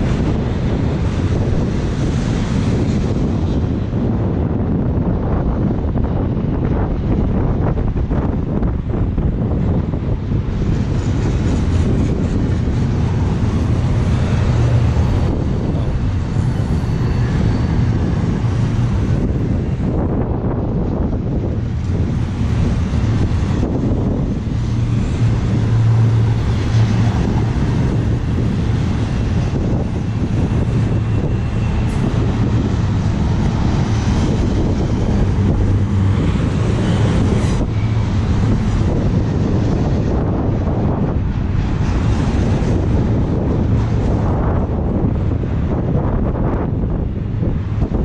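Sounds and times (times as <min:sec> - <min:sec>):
freight train rumbling past: 0:00.0 - 0:48.0
steel wheels rolling on track: 0:00.0 - 0:48.0
wind buffeting microphone: 0:00.0 - 0:48.0.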